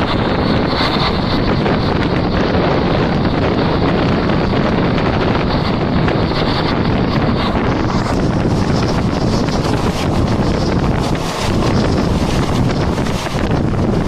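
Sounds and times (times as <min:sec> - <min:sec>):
moving train rumble: 0:00.0 - 0:14.0
wind buffeting microphone: 0:00.0 - 0:14.0.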